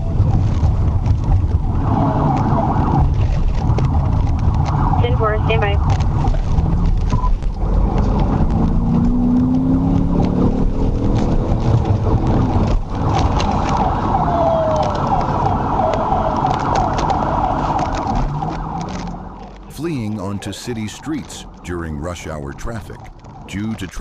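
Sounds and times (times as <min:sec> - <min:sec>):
police siren wailing: 0:00.0 - 0:08.4, 0:11.6 - 0:23.6
car engine and road noise: 0:00.0 - 0:24.0.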